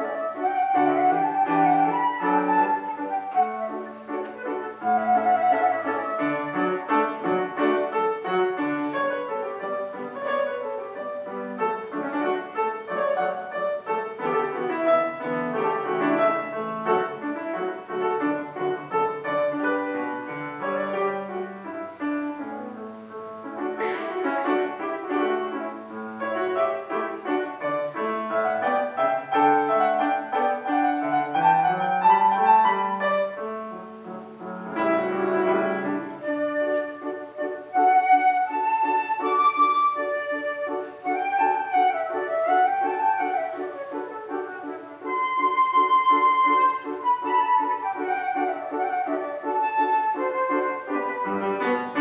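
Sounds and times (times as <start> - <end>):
classical piano music: 0.0 - 52.0.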